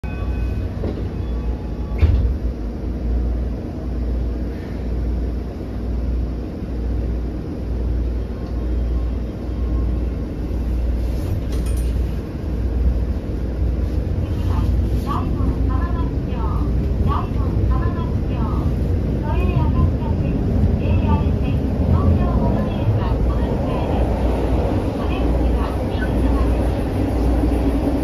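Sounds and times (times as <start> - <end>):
subway car rumble: 0.0 - 28.0.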